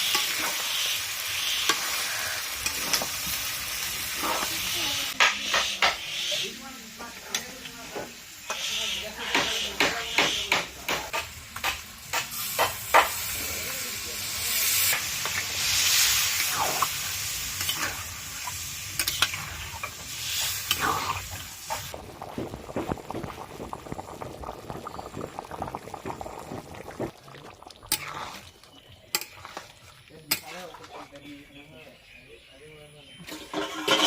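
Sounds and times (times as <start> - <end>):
crackling bubbling: 0.0 - 8.7, 11.1 - 31.5
curry sizzling in a pan: 0.0 - 31.3.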